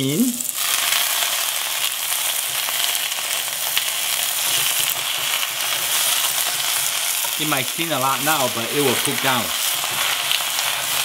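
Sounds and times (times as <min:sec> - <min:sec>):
greens sizzling in hot oil: 0:00.1 - 0:11.0
oil ticking: 0:00.5 - 0:11.0.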